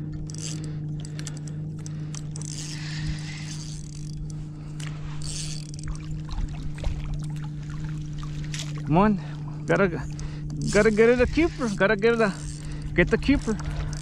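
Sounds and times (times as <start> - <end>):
steady low hum: 0.0 - 14.0
water splashing and sloshing: 0.0 - 14.0.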